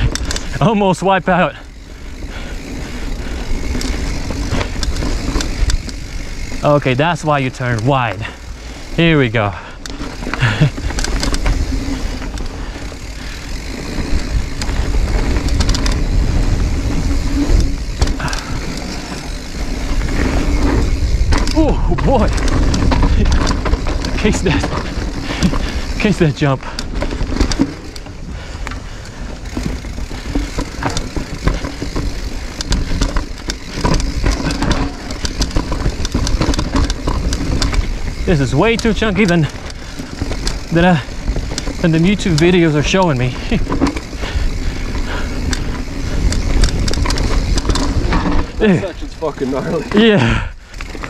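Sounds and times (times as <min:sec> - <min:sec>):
bike rattling over rocks: 0:00.0 - 0:51.0
wind and tyre rumble: 0:00.0 - 0:51.0.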